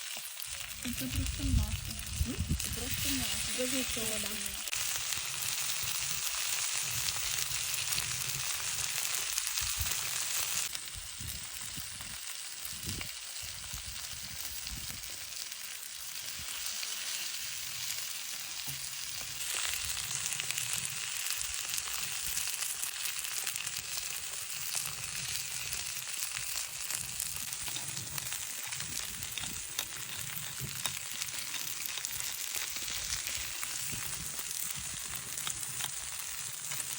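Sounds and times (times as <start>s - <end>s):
steak sizzling in a pan: 0.0s - 36.9s.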